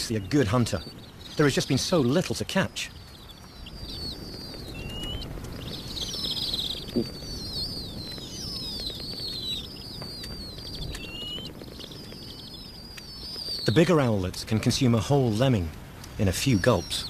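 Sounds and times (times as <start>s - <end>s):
owl chicks begging calls: 0.0s - 17.0s.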